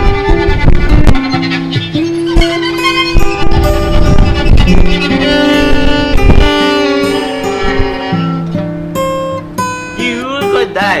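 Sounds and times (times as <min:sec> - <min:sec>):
slow stringed instrument melody: 0:00.0 - 0:10.9.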